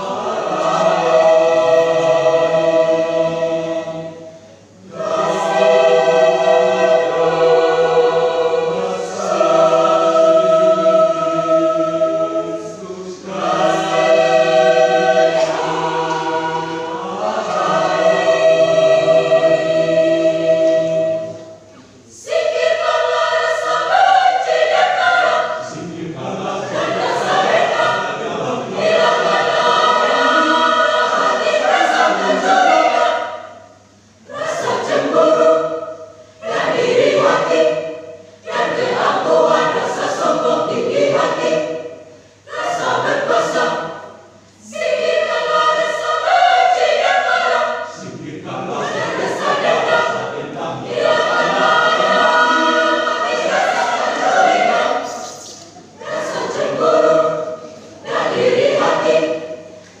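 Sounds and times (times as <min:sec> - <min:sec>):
choir singing a hymn: 0:00.0 - 1:00.0.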